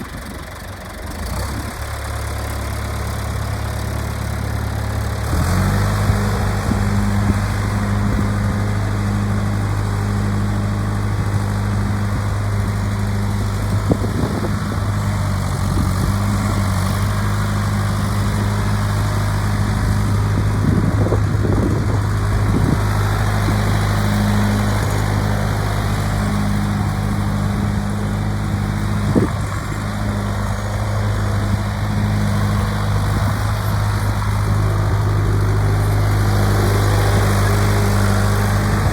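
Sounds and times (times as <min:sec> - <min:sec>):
backhoe engine idling: 0:00.0 - 0:38.9.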